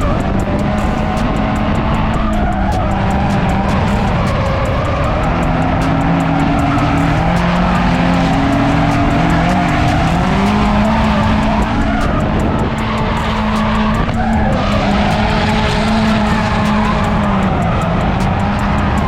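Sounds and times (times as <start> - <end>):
car engines at high revs: 0.0 - 19.0
tyres hissing and squealing: 0.0 - 19.0.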